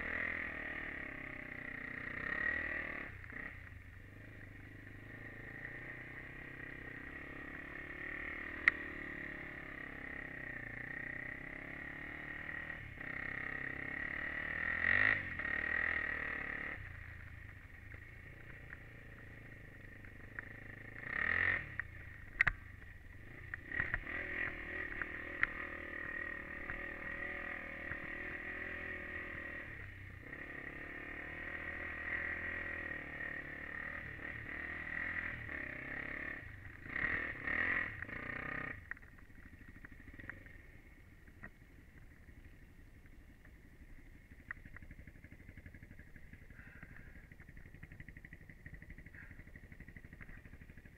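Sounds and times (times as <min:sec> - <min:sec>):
quad bike engine running: 0:00.0 - 0:50.9.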